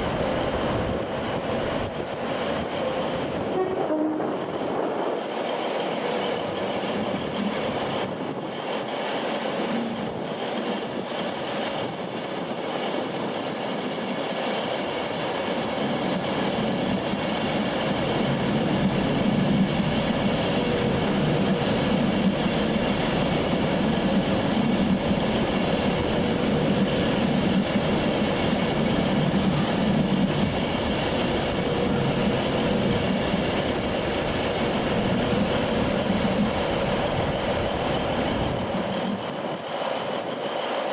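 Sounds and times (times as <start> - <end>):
passenger train running on track: 0.0 - 40.9.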